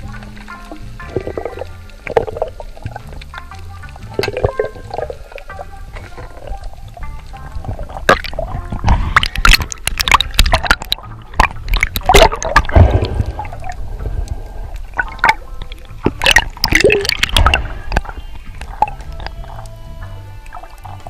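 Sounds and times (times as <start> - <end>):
low rumble: 0.0 - 21.0
sharp clicks and crackles: 0.0 - 21.0
water gurgling and sloshing: 0.0 - 21.0.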